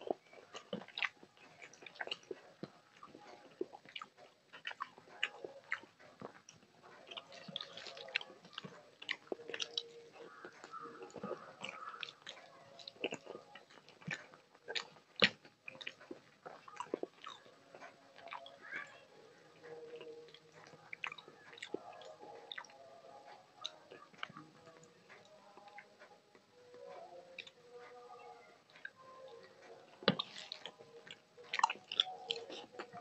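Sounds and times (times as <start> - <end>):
person chewing with wet mouth sounds: 0.0 - 33.0.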